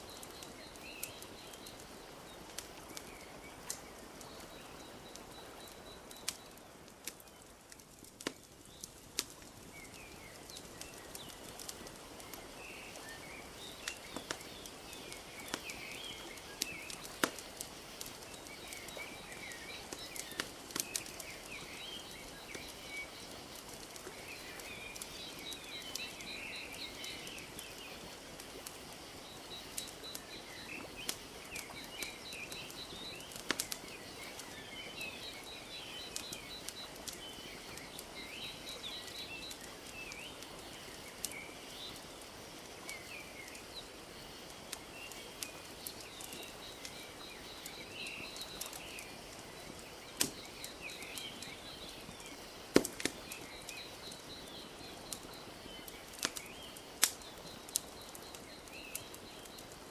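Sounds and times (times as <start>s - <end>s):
small birds chirping: 0.0s - 59.9s
wood fire crackling: 0.0s - 59.9s.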